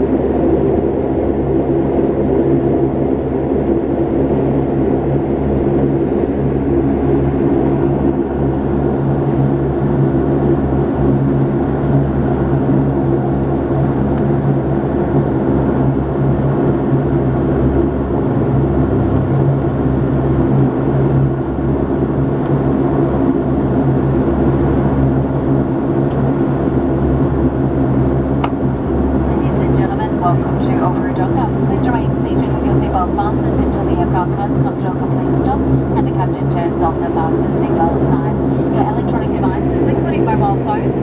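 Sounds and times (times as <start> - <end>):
turboprop engines droning in cabin: 0.0 - 41.0.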